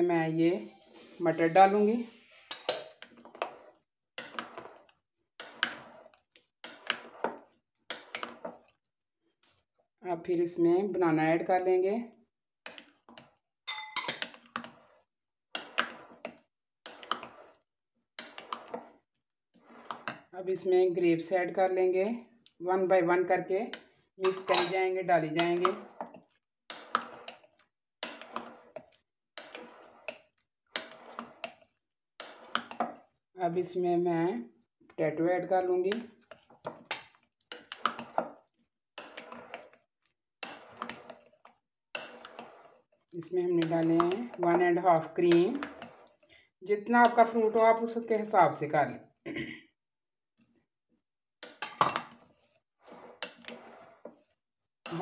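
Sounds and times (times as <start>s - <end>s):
plastic spatula scraping glass bowl: 0.4s - 9.7s, 12.6s - 13.4s, 14.0s - 33.8s, 34.9s - 49.2s, 51.4s - 55.0s.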